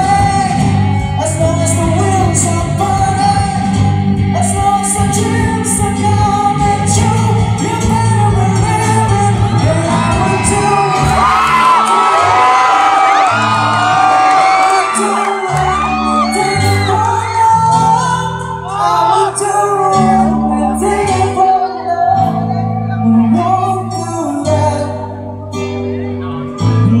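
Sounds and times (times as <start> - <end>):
crowd screaming and whooping: 0.0 - 5.8, 8.4 - 24.9
person singing: 0.0 - 27.0
rock band playing: 0.0 - 27.0.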